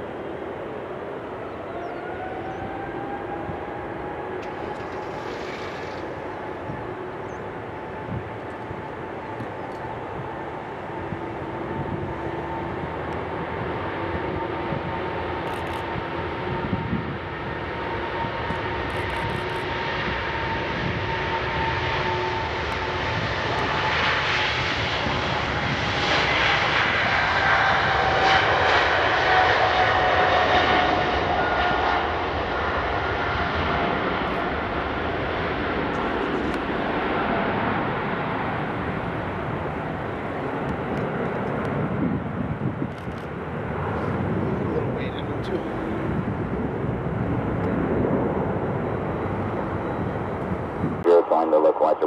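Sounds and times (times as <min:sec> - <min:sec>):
jet engines roaring at takeoff: 0:00.0 - 0:52.0.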